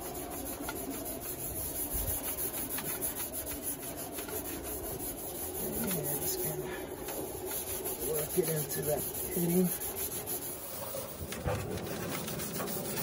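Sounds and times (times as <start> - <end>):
scrub pad scrubbing steel: 0.0 - 13.0.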